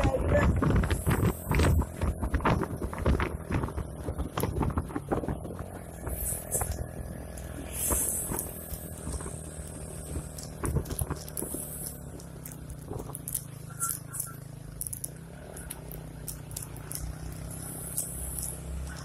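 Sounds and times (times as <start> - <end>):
truck engines passing: 0.0 - 19.0.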